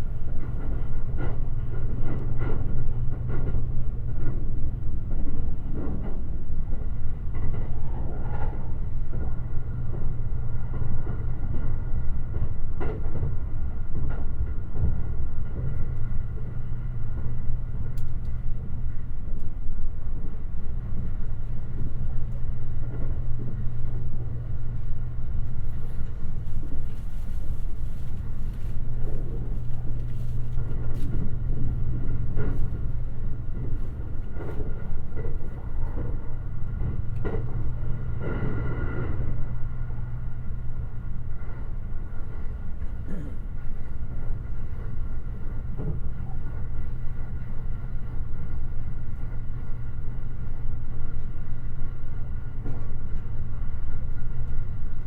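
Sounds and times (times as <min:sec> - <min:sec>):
electric train rumbling: 0:00.0 - 0:55.0
low hum: 0:00.0 - 0:55.0.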